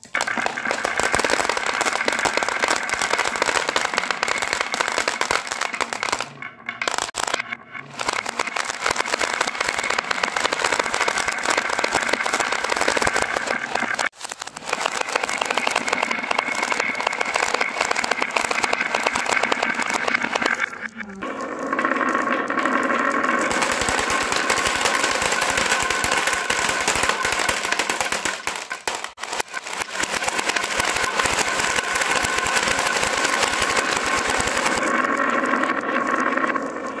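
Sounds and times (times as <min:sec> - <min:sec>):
marbles rattling down wooden grooves: 0:00.0 - 0:37.0.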